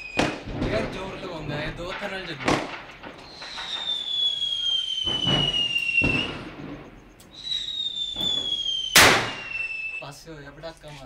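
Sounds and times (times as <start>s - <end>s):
firecracker bangs: 0.0s - 10.1s
whistling firework: 0.0s - 10.2s.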